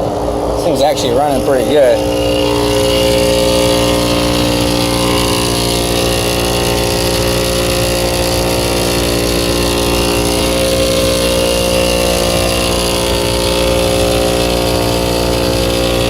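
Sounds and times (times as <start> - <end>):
rooftop hvac unit humming: 0.0 - 16.0
rough compressor noise: 0.0 - 16.0.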